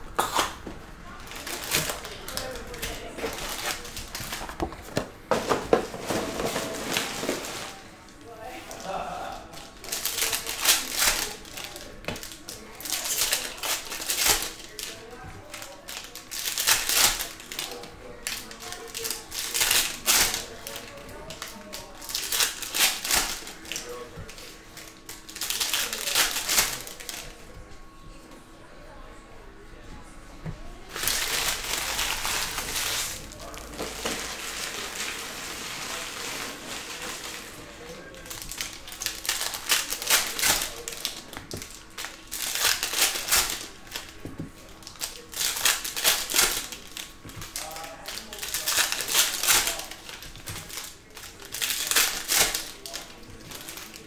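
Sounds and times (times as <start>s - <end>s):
foil wrapper crinkling and tearing: 0.2s - 5.0s, 6.0s - 27.4s, 30.8s - 54.0s.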